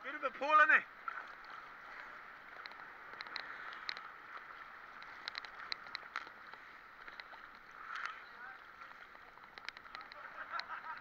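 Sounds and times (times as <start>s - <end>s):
crackling ticks of drops and bubbles: 1.0s - 11.0s
sea water sloshing against camera housing: 1.0s - 11.0s.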